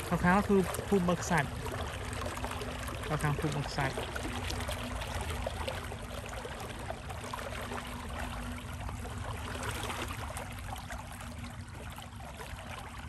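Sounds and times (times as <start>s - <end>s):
faint steady hum: 0.0s - 13.0s
floodwater rushing and gurgling: 0.0s - 13.0s.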